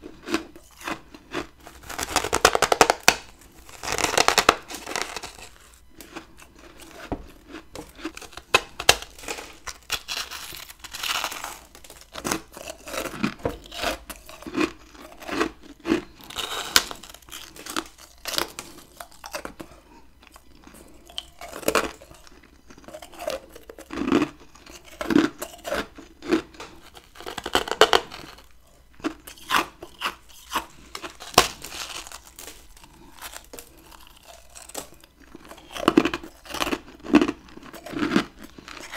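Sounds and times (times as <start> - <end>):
biting and chewing ice: 0.0 - 38.9.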